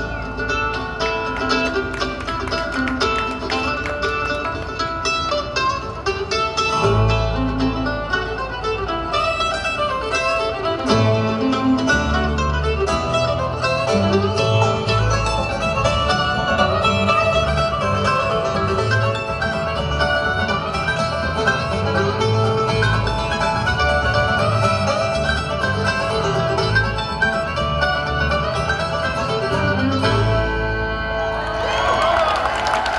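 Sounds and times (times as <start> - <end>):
bluegrass band playing: 0.0 - 32.9.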